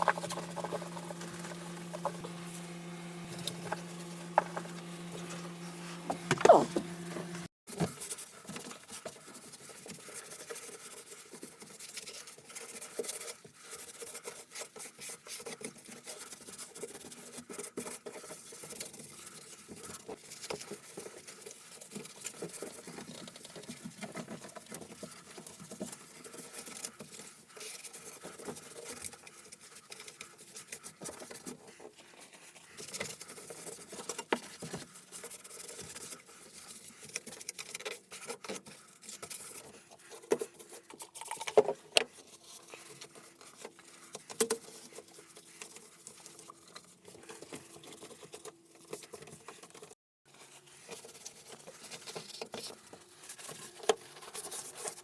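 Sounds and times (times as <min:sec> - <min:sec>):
light tapping and scratching: 0:00.0 - 0:55.0.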